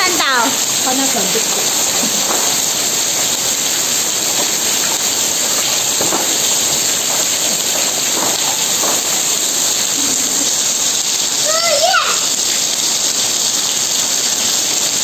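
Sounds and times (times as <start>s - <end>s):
heavy rain on standing water: 0.0s - 15.0s.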